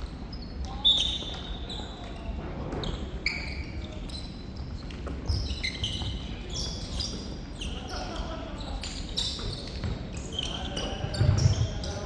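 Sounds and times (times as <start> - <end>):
sports shoes squeaking on court: 0.3 - 12.0.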